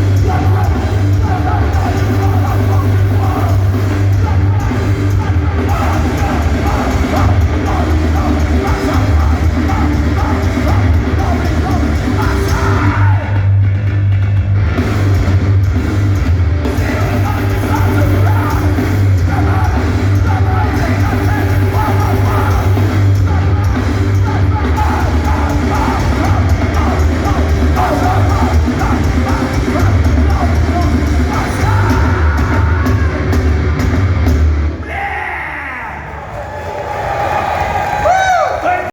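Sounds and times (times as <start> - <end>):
punk band playing live: 0.0 - 36.2.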